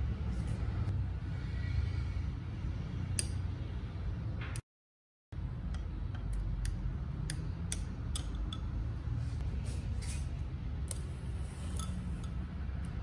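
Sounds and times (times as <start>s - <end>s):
steady low hum: 0.0s - 4.6s, 5.4s - 13.0s.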